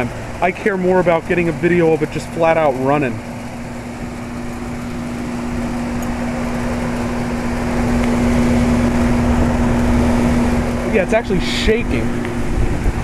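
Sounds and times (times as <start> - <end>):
compressor hum: 0.0 - 13.0
condenser fan rushing: 0.0 - 13.0.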